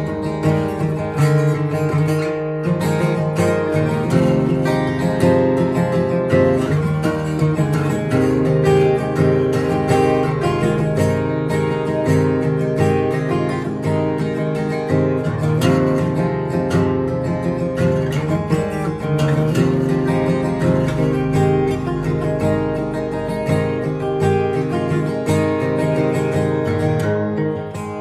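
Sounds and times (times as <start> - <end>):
acoustic guitar picking: 0.0 - 28.0.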